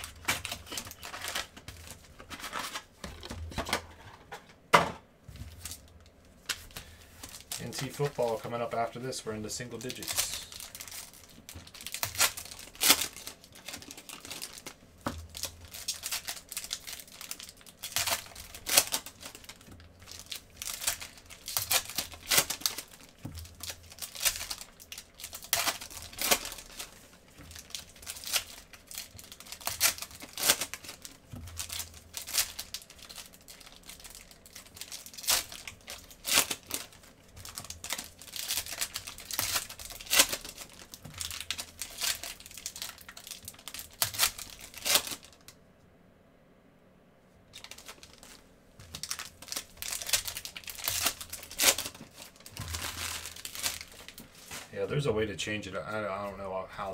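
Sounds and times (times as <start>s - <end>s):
foil wrappers crinkling and tearing: 0.0s - 4.0s, 5.4s - 45.5s, 47.5s - 55.1s.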